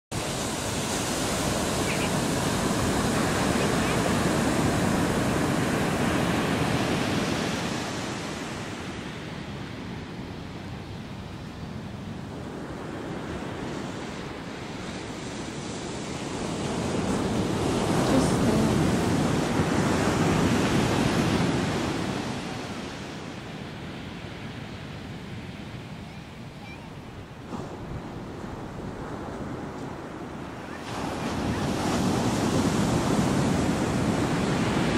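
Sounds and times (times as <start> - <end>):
ocean surf washing onto beach: 0.1 - 34.9.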